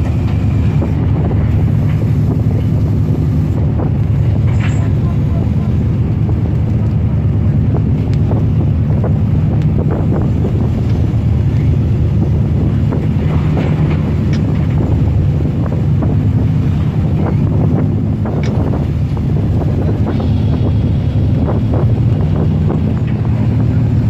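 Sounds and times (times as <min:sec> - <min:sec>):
marine engines droning: 0:00.0 - 0:24.0
wind buffeting microphone: 0:00.0 - 0:24.0.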